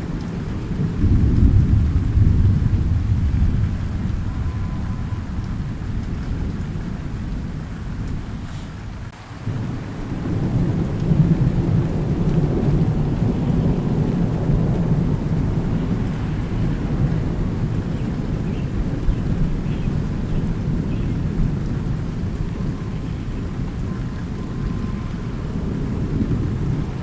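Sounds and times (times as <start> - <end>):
low rolling thunder: 0.0 - 27.0
steady rain: 0.0 - 27.0.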